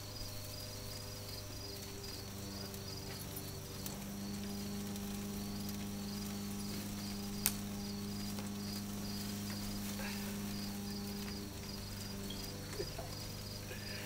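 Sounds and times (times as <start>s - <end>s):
insects chirping: 0.0s - 14.0s
low hum: 0.0s - 14.0s.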